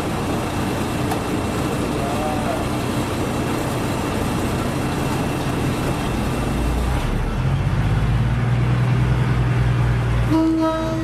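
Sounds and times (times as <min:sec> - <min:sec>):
train rumble: 0:00.0 - 0:08.2, 0:09.1 - 0:11.0
low engine drone: 0:00.0 - 0:11.0.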